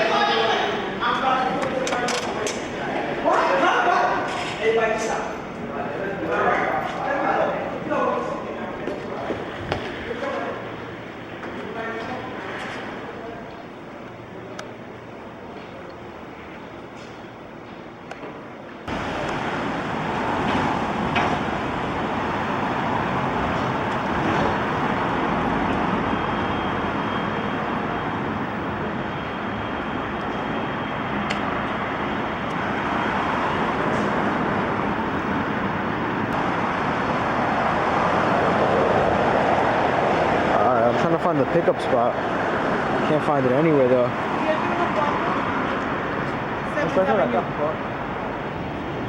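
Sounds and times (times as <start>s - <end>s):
city traffic rumble: 0.0s - 49.0s.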